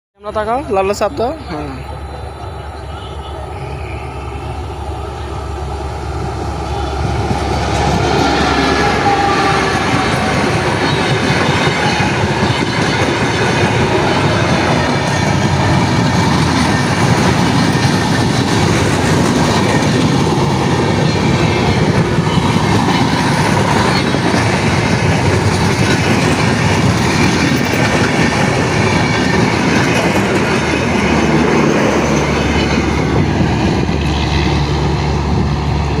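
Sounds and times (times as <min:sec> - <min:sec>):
train rumbling on rails: 0:00.2 - 0:36.0.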